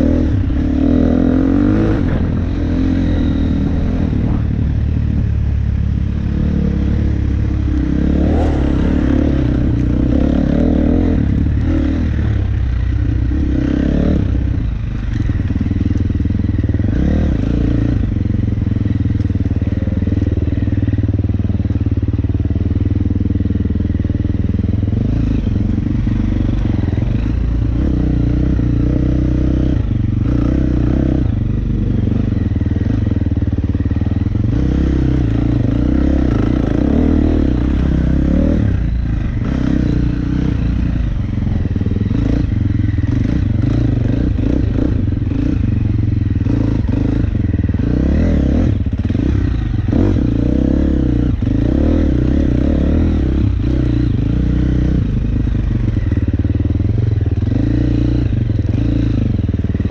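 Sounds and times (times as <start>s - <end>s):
dirt bike engine revving: 0.0s - 20.4s, 23.9s - 59.9s.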